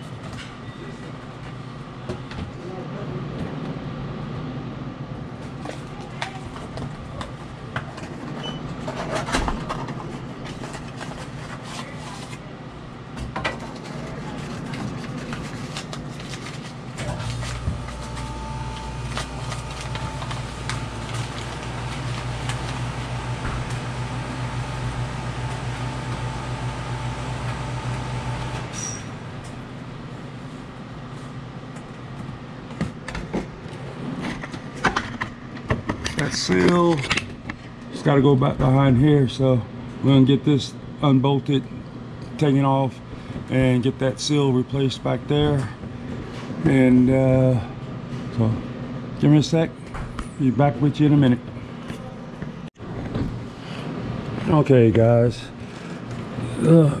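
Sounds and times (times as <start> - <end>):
low loud hum: 0.0 - 57.0
steady machine hum: 1.0 - 49.9.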